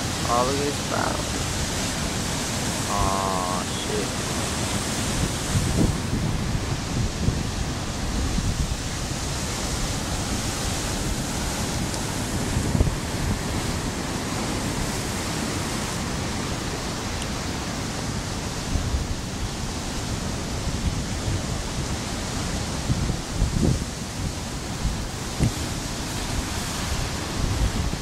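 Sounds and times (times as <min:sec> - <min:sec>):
ocean waves breaking: 0:00.0 - 0:28.0
wind buffeting microphone: 0:00.0 - 0:28.0.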